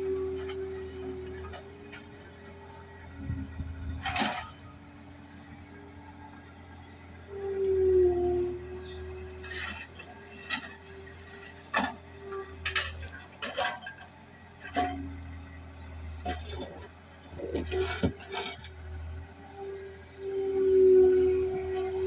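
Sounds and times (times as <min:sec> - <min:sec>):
skid steer engine drone: 0:00.0 - 0:22.0.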